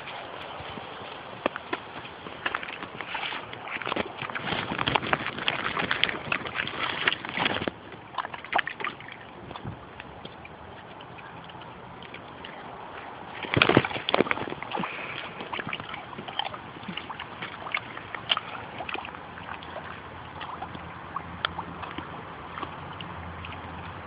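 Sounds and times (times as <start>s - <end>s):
water splashing in a pool: 0.0s - 24.0s.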